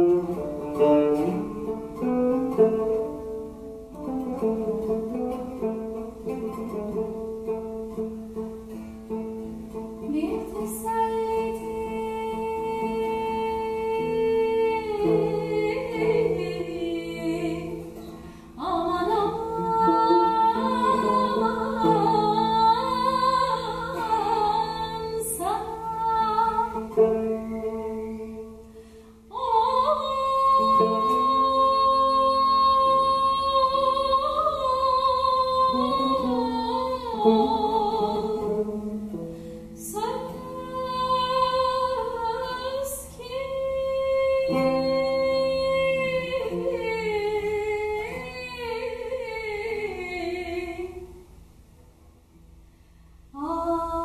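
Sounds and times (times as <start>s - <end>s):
woman singing: 0.0s - 51.3s, 53.3s - 54.0s
plucked lute: 0.0s - 54.0s.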